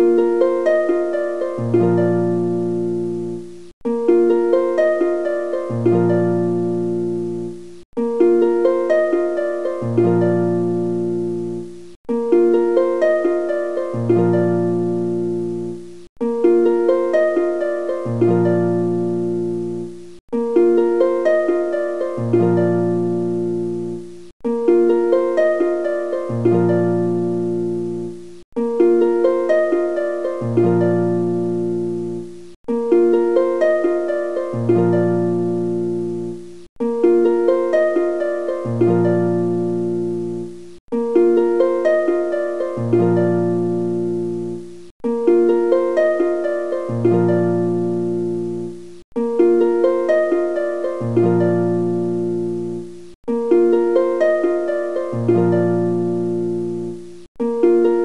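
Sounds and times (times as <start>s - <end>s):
plucked-string music loop: 0.0s - 58.0s.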